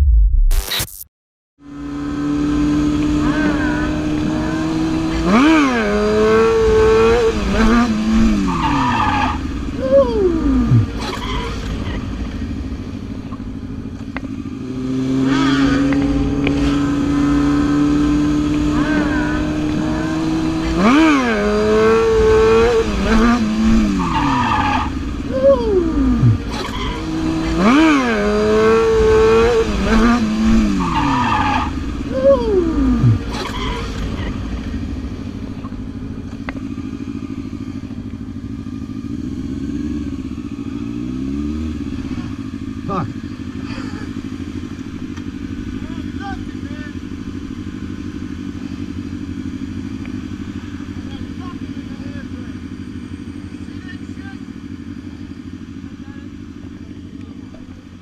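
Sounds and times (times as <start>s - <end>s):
motorcycle engine running: 1.6s - 58.0s.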